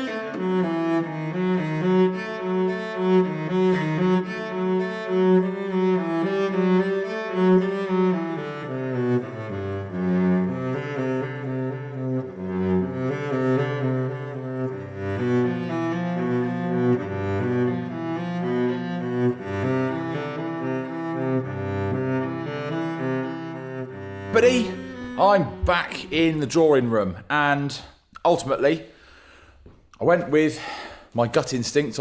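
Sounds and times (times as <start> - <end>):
low cello line: 0.0 - 27.4
bowed string music: 0.0 - 27.5.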